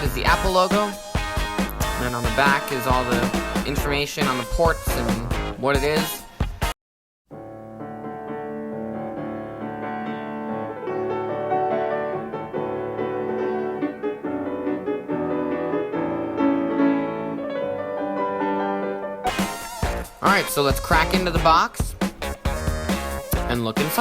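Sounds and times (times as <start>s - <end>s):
piano background music: 0.0s - 6.3s, 7.3s - 24.0s.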